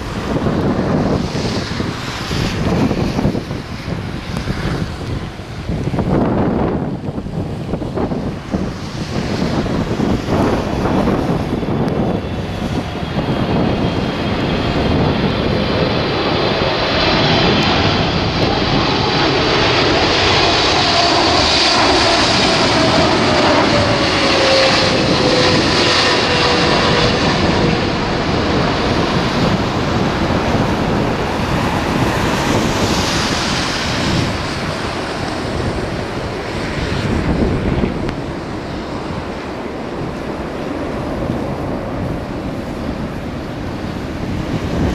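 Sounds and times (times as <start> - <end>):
jet engines with fan whine: 0.0 - 44.9.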